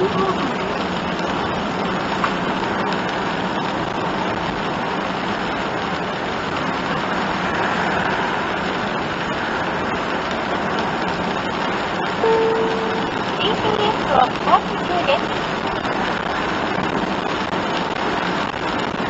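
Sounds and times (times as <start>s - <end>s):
engine hum: 0.0s - 19.0s
tyre hiss on wet road: 0.0s - 19.0s.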